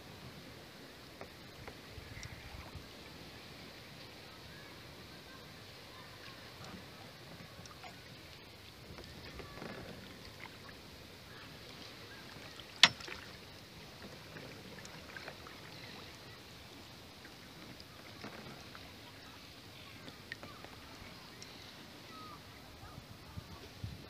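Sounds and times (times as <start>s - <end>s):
paddle dipping and dripping: 0.3s - 24.0s.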